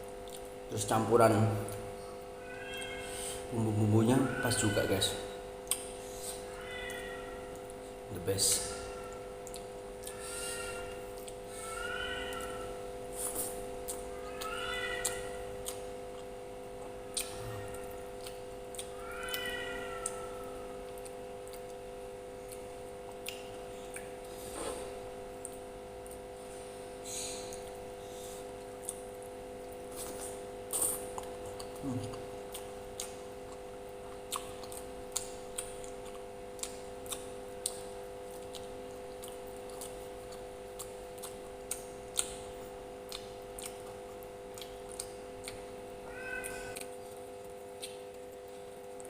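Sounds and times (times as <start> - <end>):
chewing sounds: 0.0 - 0.9, 4.4 - 26.6, 27.2 - 49.0
electrical hum: 0.0 - 49.0.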